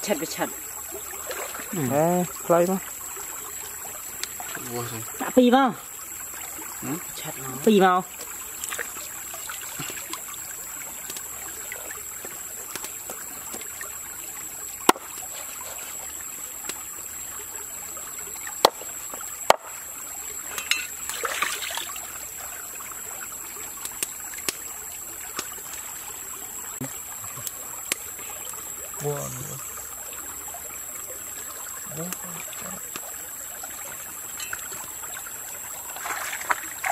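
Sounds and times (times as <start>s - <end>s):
stream trickling over rocks: 0.0s - 36.9s.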